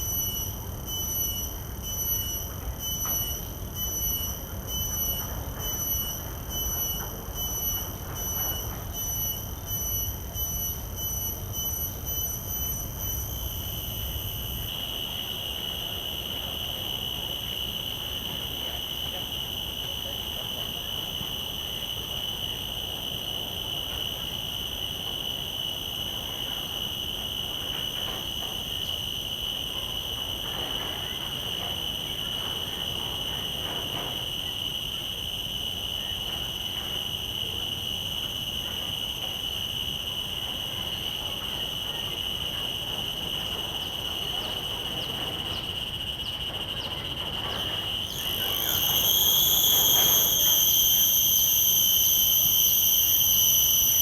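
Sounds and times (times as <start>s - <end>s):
cicadas buzzing: 0.0s - 54.0s
close cicada song: 0.0s - 54.0s.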